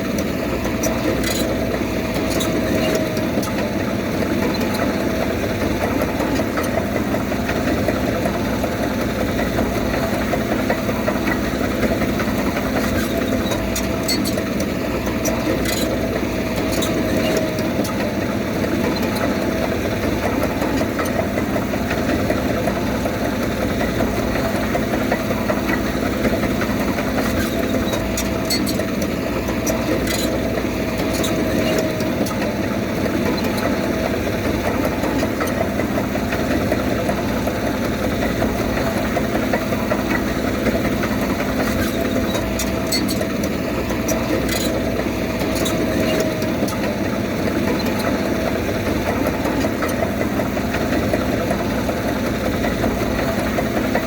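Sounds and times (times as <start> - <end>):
diesel engine of heavy machinery: 0.0 - 54.0.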